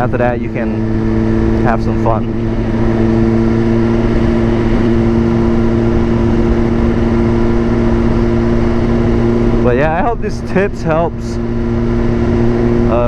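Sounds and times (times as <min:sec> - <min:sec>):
motorcycle engine cruising: 0:00.0 - 0:13.0
wind noise on microphone: 0:01.0 - 0:12.8.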